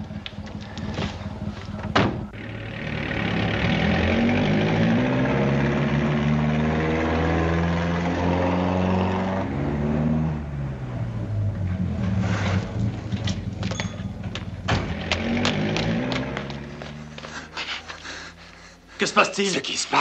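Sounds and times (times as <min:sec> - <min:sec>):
vehicle engine running: 0:00.0 - 0:19.2.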